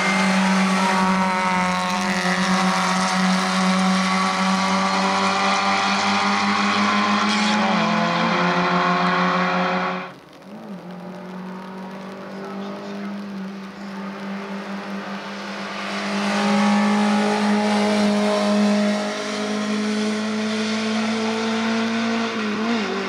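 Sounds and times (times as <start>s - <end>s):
race car engines at high revs: 0.0s - 23.0s.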